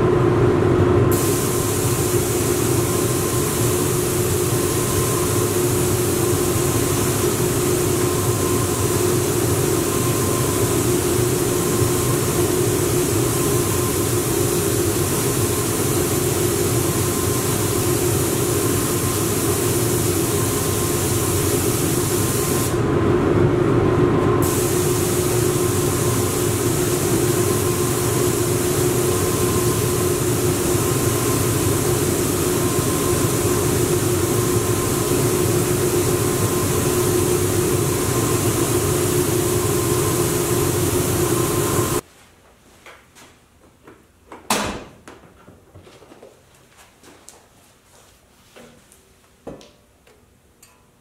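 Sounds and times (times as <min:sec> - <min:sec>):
machine humming and hissing: 0:00.0 - 0:42.0.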